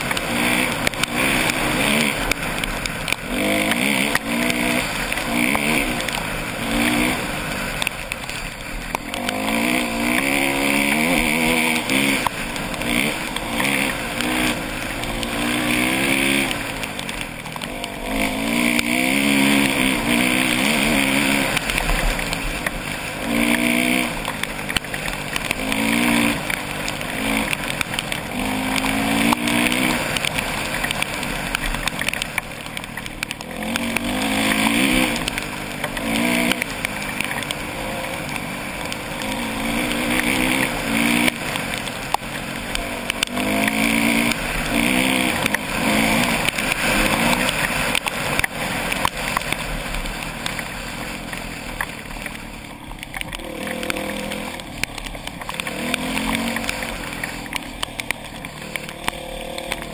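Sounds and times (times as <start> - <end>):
dirt bike engine accelerating: 0.0 - 59.9.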